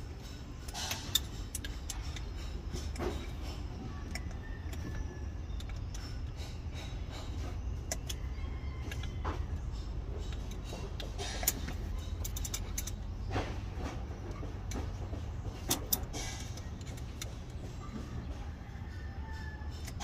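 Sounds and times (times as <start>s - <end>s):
pliers clicking and scraping metal: 0.0s - 13.4s, 15.6s - 17.7s, 19.0s - 20.0s
steady low hum: 0.0s - 20.0s.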